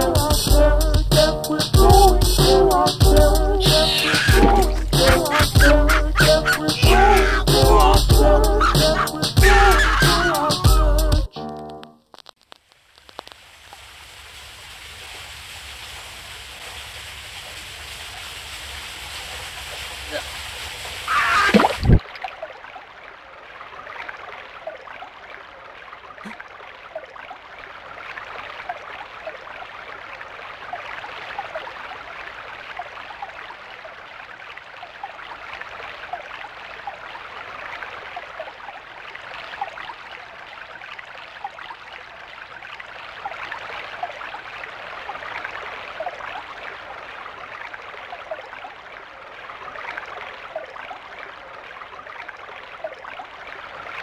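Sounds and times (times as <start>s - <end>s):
stream babbling: 0.0s - 12.0s, 12.8s - 54.0s.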